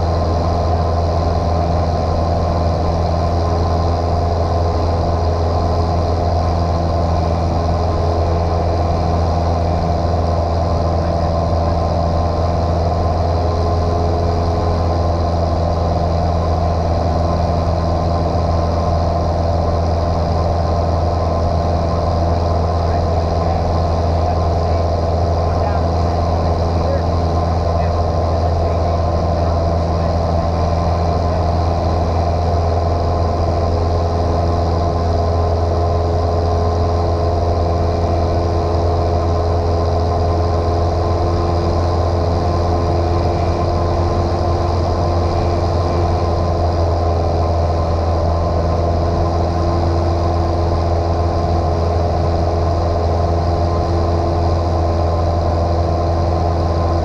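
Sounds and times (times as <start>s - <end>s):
airplane engine droning in cockpit: 0.0s - 57.0s.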